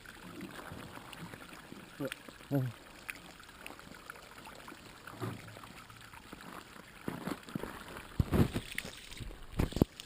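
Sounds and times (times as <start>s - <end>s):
spring water trickling: 0.0s - 10.0s.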